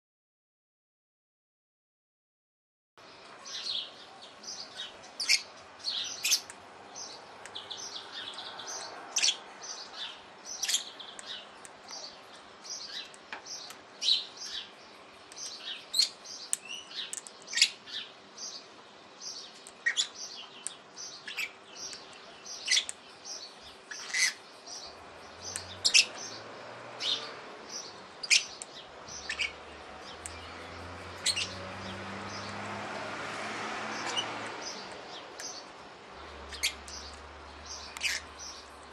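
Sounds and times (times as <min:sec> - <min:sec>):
birds chirping: 0:03.0 - 0:38.9
faint steady background noise: 0:03.0 - 0:38.9.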